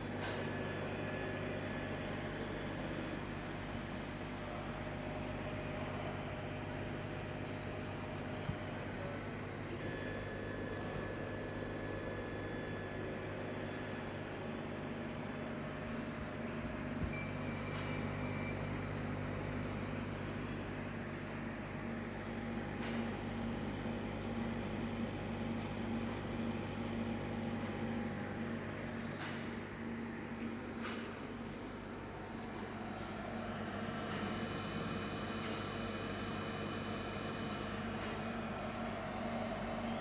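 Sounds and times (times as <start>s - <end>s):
laser cutter mechanical hum: 0.0s - 40.0s.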